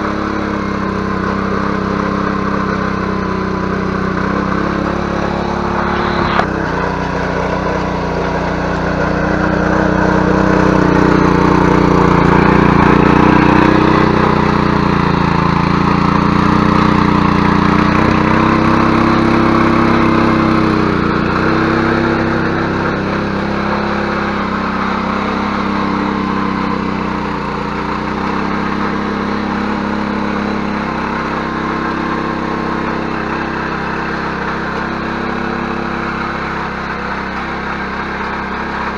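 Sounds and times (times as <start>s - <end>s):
motor hoe engine under load: 0.0s - 38.9s.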